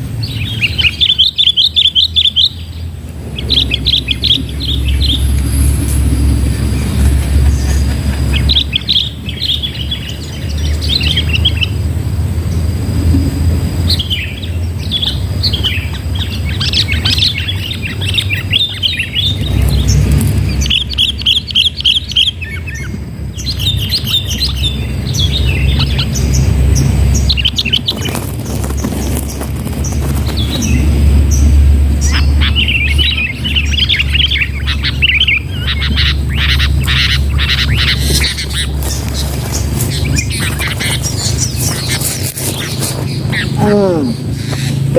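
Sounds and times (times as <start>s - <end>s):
birds chattering: 0.0s - 44.9s
low rumble: 2.0s - 44.9s.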